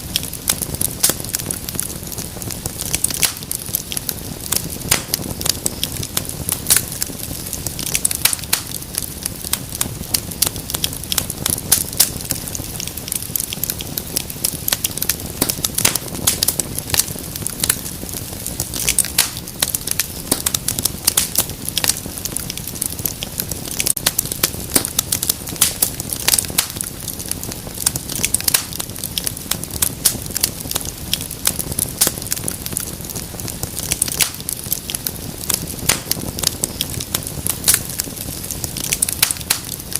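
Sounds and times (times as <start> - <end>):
hiss and rumble of flame: 0.0 - 39.9
wood fire crackling and popping: 0.0 - 39.9.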